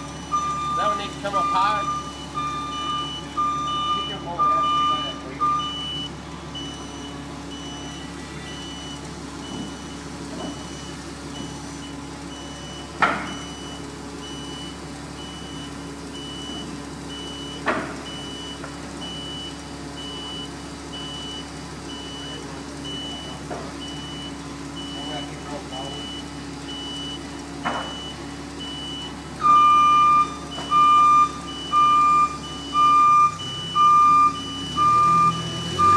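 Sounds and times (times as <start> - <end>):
engine running: 0.0 - 35.9
reversing alarm beeping: 0.0 - 35.9.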